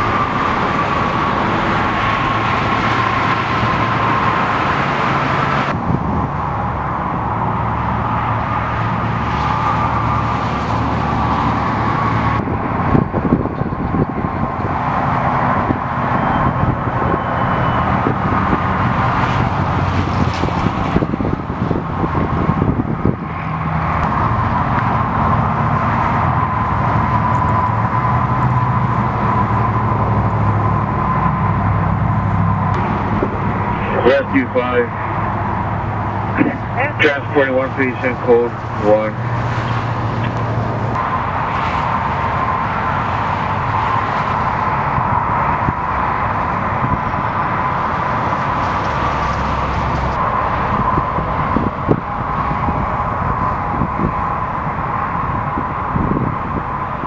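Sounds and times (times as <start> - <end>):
constant whine: 0.0 - 57.0
road traffic noise: 0.0 - 57.0
vehicle engines running: 0.0 - 57.0.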